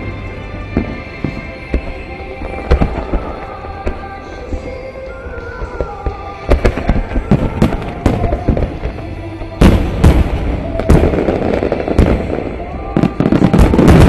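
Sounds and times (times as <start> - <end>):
background music: 0.0 - 14.0
fireworks banging: 0.7 - 14.0.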